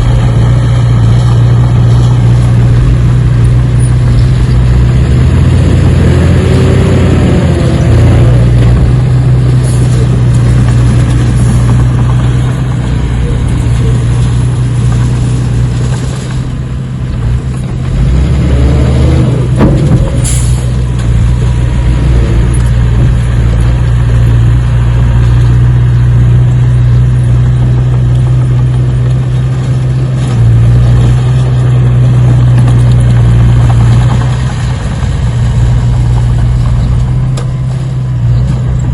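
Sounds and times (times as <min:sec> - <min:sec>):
heavy engine droning: 0:00.0 - 0:38.9.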